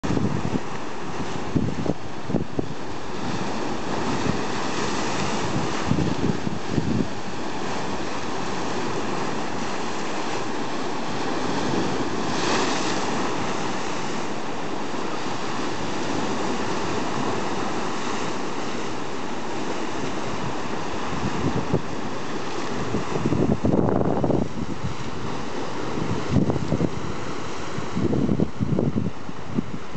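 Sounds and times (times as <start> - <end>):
waves crashing on rocky shore: 0.0 - 29.9
wind gusting on microphone: 0.0 - 29.9.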